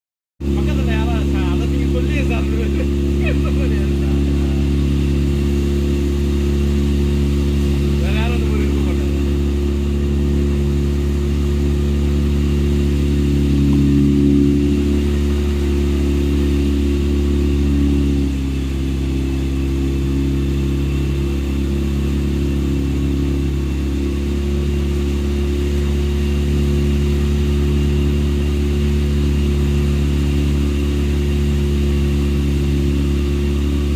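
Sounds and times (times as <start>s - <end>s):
motorboat engine running: 0.4s - 33.9s.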